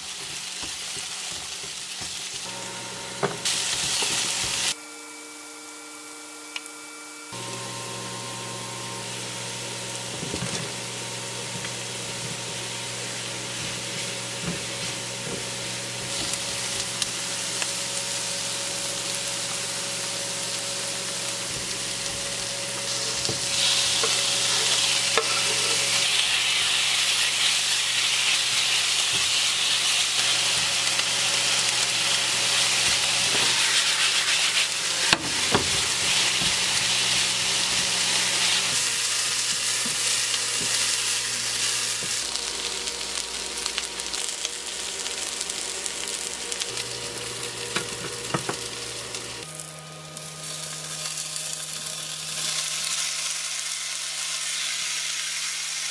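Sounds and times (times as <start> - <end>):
food sizzling in a pan: 0.0 - 4.8, 7.4 - 55.9.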